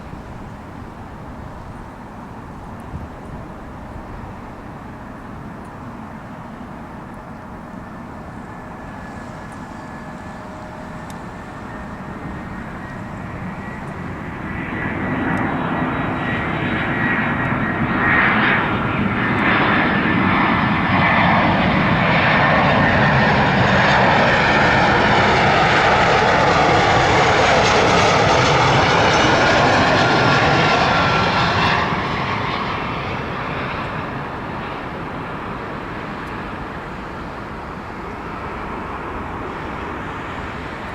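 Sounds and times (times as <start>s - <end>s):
jet airliner passing: 0.0s - 40.9s.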